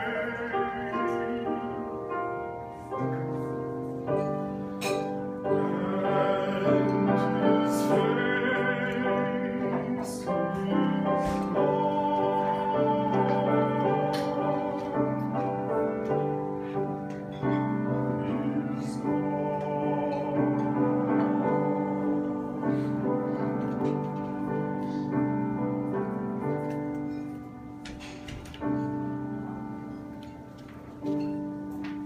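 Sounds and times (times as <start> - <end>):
slow piano chords: 0.0 - 32.0.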